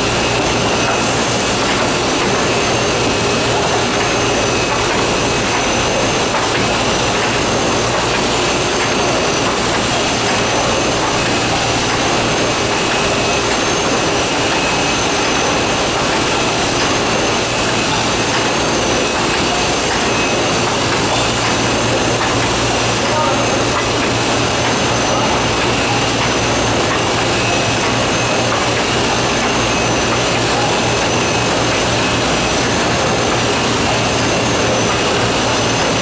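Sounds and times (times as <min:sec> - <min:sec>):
steady mechanical whir: 0:00.0 - 0:36.0.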